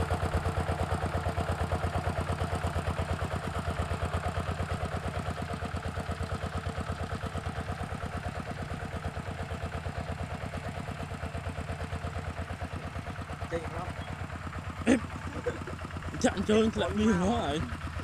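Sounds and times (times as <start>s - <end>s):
walking tractor engine chugging: 0.0s - 18.0s.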